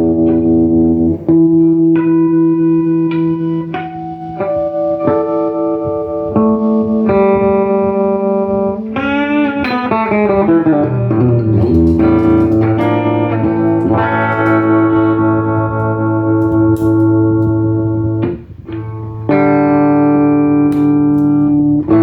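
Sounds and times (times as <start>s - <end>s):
clean electric guitar notes: 0.0s - 22.0s.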